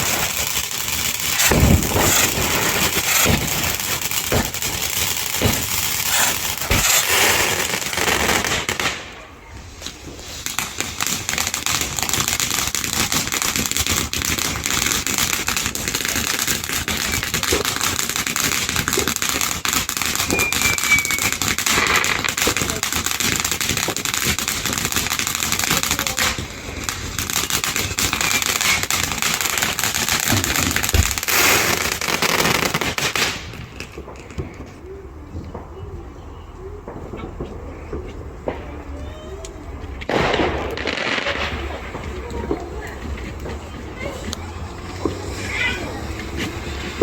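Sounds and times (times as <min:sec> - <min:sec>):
firework fountains crackling: 0:00.0 - 0:47.0.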